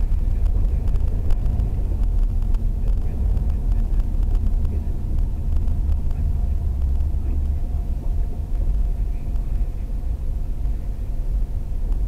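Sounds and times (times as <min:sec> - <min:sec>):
car engine rumble and road noise: 0:00.0 - 0:12.0
faint steady hum: 0:00.0 - 0:12.0.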